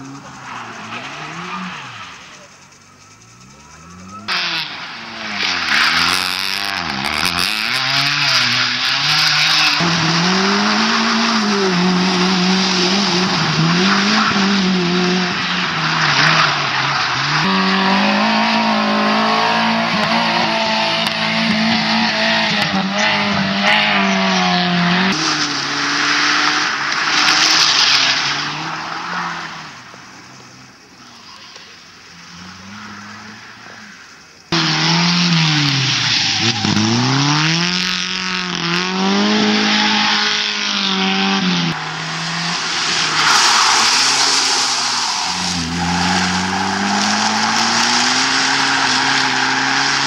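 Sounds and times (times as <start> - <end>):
tyres squealing: 0.0 - 29.6, 34.6 - 50.0
rally car engines revving: 0.0 - 50.0.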